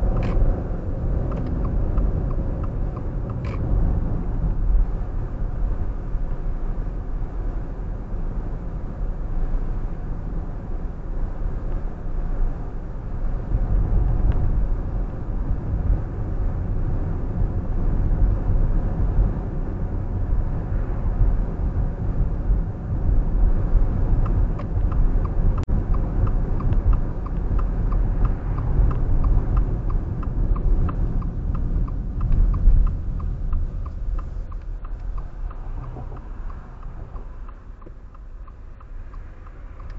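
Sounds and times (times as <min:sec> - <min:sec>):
turn signal ticking: 0:00.0 - 0:07.6, 0:11.1 - 0:39.9
car engine and road rumble: 0:00.0 - 0:39.9.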